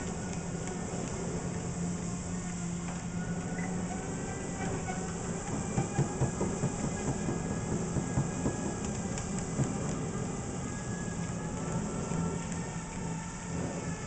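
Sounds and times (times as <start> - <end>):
skateboard wheels rumbling: 0.0 - 14.0
treadmill motor hum: 0.0 - 14.0.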